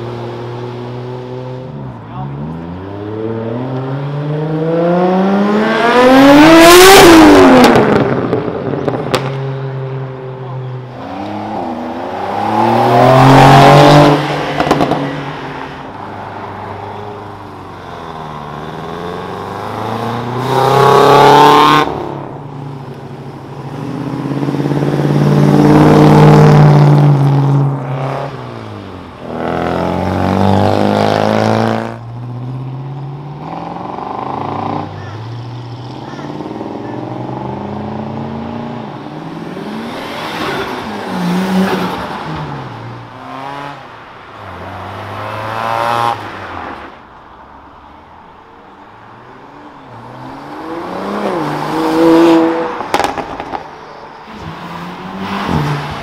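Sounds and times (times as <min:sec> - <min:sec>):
cars accelerating past: 0:00.0 - 0:47.0, 0:49.8 - 0:56.0.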